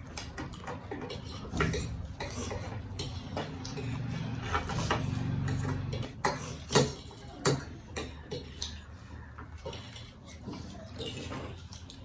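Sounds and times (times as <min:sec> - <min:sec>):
utensils clicking against a dish: 0:00.0 - 0:12.0.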